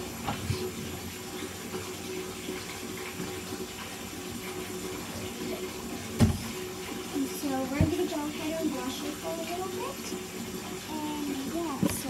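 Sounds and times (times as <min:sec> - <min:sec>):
water pouring into bathtub: 0:00.0 - 0:12.0.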